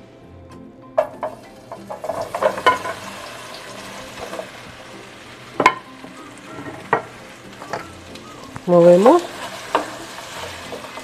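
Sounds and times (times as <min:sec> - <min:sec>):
oil frying sizzle: 0:01.0 - 0:11.0
potato wedges clattering into pan: 0:01.0 - 0:11.0.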